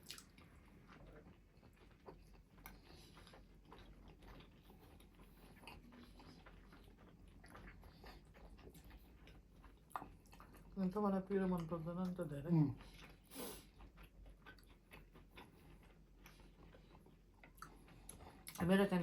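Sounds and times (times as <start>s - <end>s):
low room hum: 0.0s - 19.0s
people chewing and eating: 0.0s - 19.0s.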